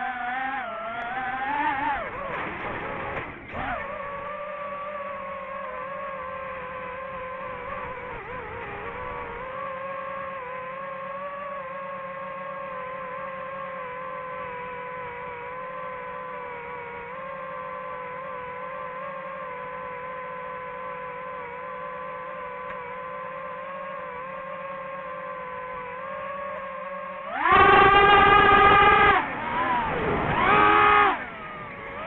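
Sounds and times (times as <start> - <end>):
drone motors humming: 0.0 - 32.0
drone motors spooling up: 0.0 - 32.0.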